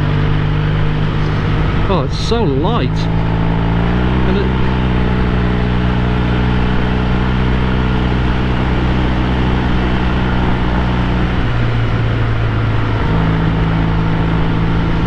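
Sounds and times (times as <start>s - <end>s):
motorcycle engine riding: 0.0s - 15.0s.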